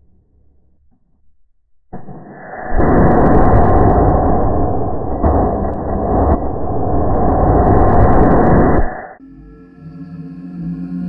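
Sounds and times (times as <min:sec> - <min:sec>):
faint low outdoor rumble: 0:00.0 - 0:11.0.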